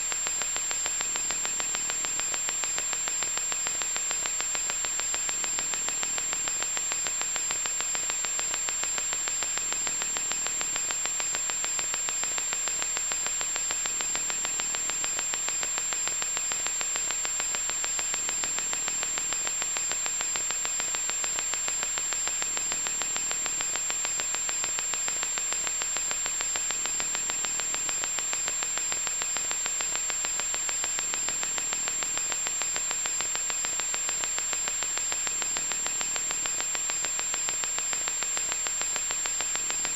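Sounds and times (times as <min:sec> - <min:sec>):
electronic static hiss: 0:00.0 - 0:39.9.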